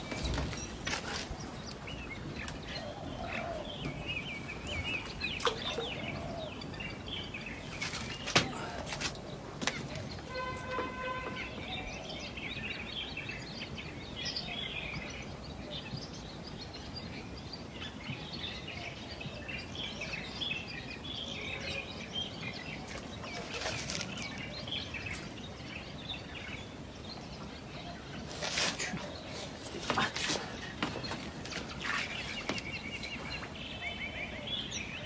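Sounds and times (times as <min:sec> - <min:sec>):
outdoor background hiss: 0:00.0 - 0:35.0
small birds chirping: 0:00.0 - 0:35.0.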